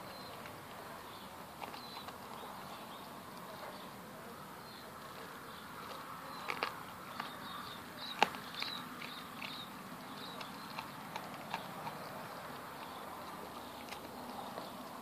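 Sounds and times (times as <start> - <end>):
dog chewing with crunches: 0.1 - 3.5, 5.1 - 15.0.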